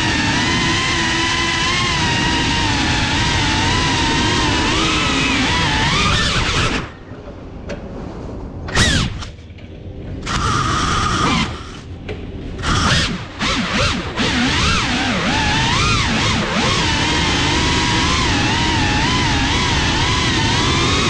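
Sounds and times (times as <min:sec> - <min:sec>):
quadcopter motors whining: 0:00.0 - 0:07.1, 0:08.7 - 0:09.4, 0:10.2 - 0:11.9, 0:12.6 - 0:21.0.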